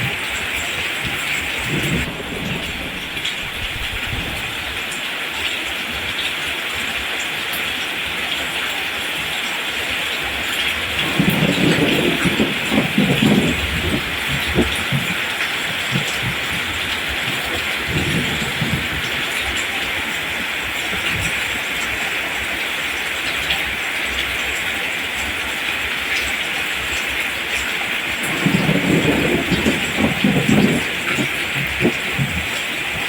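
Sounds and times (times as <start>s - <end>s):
thunder rumbling: 0.0s - 6.1s, 10.2s - 33.0s
steady rain on plants: 0.0s - 33.0s.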